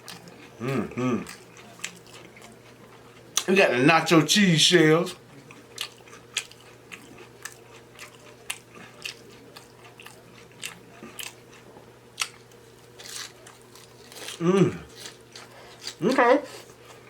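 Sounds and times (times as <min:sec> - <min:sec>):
chewing crunchy taco: 0:00.0 - 0:17.0.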